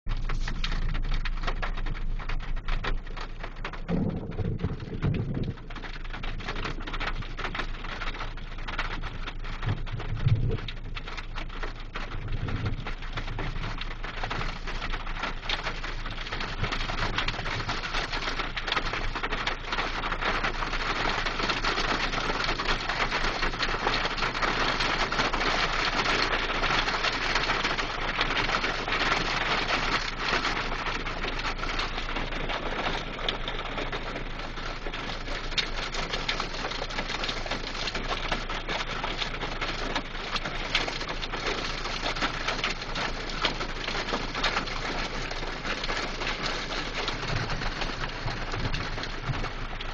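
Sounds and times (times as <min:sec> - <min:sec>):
hail and rain pelting a car: 0:00.1 - 0:49.9.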